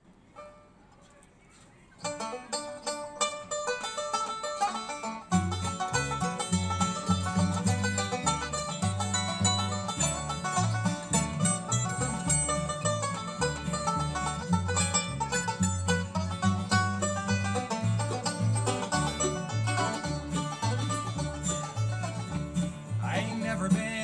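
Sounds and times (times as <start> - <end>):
picked banjo notes: 0.2 - 1.1, 2.0 - 24.0
guitar: 2.0 - 24.0
walking bass line: 3.8 - 24.0.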